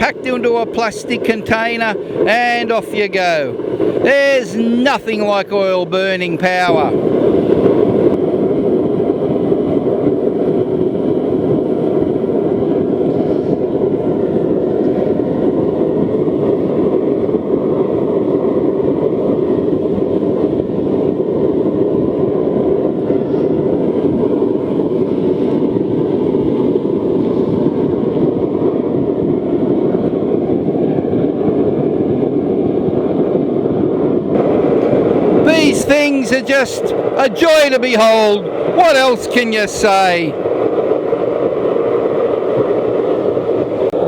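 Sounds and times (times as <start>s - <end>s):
oil burner flame and blower roaring: 0.0s - 44.0s.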